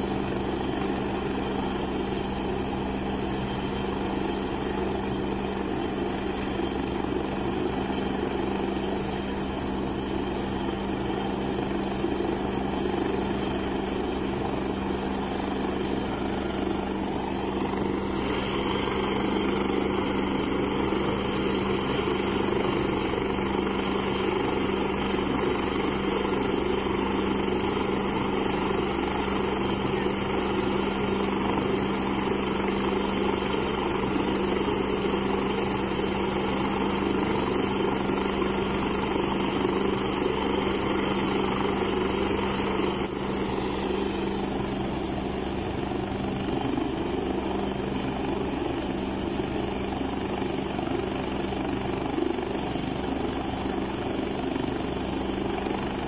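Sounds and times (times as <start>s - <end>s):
helicopter turbines and rotor: 0.0s - 56.0s.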